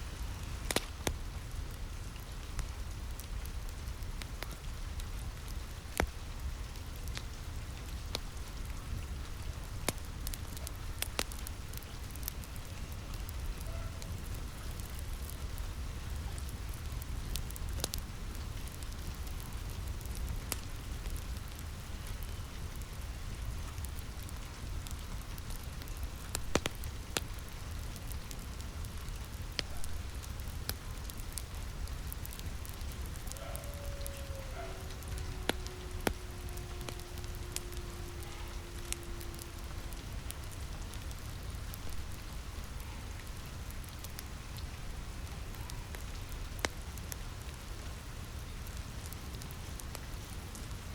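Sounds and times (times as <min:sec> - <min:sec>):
fireplace crackling: 0:00.0 - 0:50.9
rain on a roof: 0:00.0 - 0:50.9.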